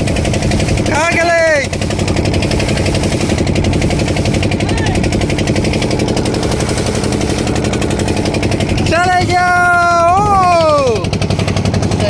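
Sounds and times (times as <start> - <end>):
boat engine pulsing: 0.0 - 12.0.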